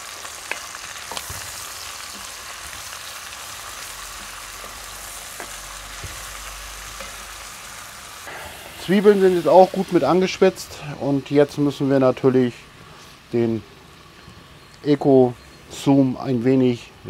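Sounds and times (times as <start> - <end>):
meat and onions sizzling in oil: 0.0 - 14.8.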